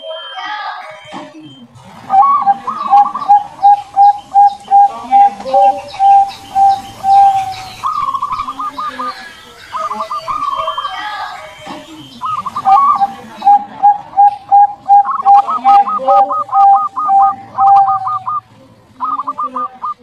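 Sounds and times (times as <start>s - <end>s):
small birds chirping: 0.4s - 20.0s
dove cooing: 1.4s - 20.0s.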